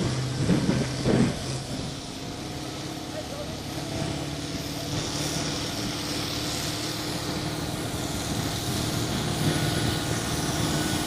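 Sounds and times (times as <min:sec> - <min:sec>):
vehicle engine humming: 0:00.0 - 0:11.0
hiss: 0:00.9 - 0:11.0.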